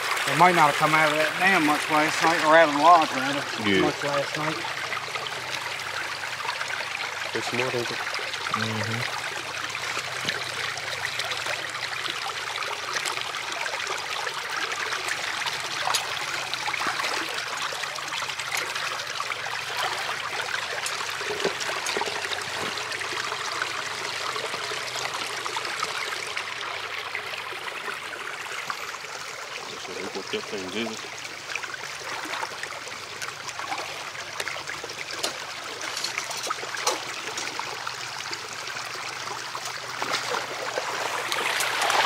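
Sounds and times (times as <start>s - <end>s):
water running through dam: 0.0s - 42.0s
water splashes: 0.0s - 42.0s.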